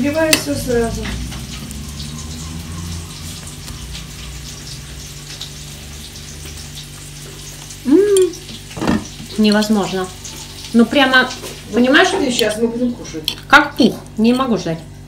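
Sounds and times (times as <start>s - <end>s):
food sizzling in a pan: 0.0s - 13.9s.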